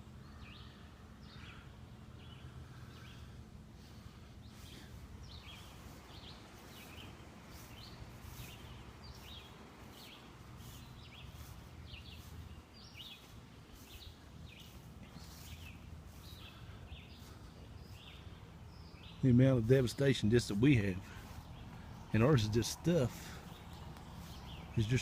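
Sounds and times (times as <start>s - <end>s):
birds chirping: 0.0s - 25.0s
low outdoor rumble: 0.0s - 25.0s.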